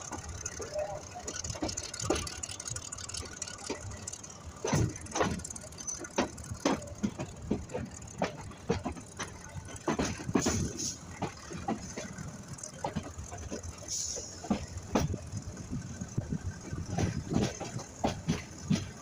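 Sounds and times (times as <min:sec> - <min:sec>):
knocks and clatters: 0:00.0 - 0:19.0
train low rumble: 0:00.0 - 0:19.0.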